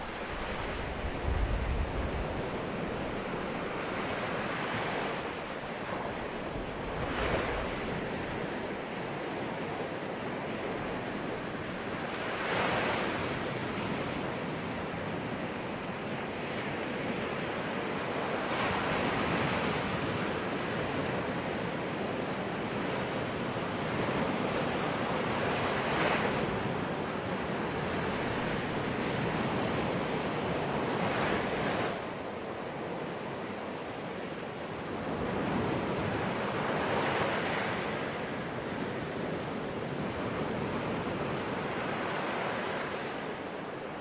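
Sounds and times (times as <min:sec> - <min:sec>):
ocean waves breaking on beach: 0:00.0 - 0:44.0.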